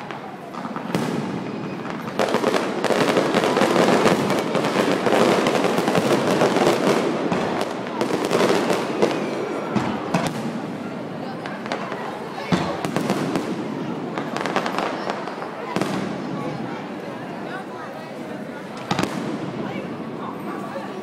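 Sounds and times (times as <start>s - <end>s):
fireworks crackling and popping: 0.0s - 17.0s, 18.4s - 20.2s.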